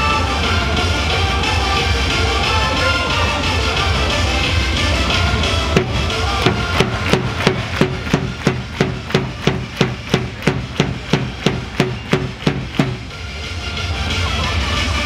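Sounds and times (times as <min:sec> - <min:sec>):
drum beating steady rhythm: 0:00.0 - 0:14.5
stadium crowd noise: 0:00.0 - 0:15.0.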